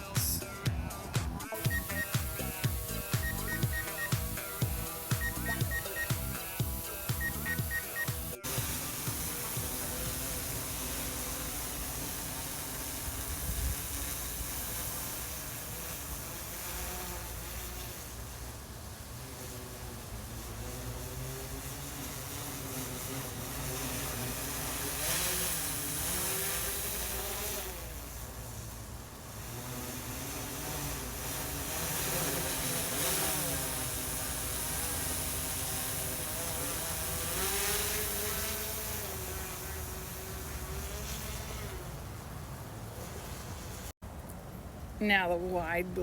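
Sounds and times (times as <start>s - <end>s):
drone propeller buzzing hum: 0.0s - 44.0s.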